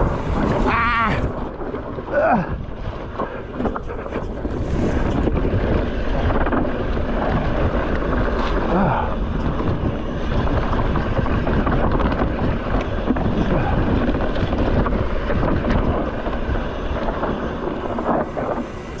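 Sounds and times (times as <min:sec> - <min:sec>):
bike rattling over bumps: 0:00.0 - 0:19.0
tyres crunching on dry dirt: 0:00.0 - 0:19.0
wind buffeting microphone: 0:00.0 - 0:19.0.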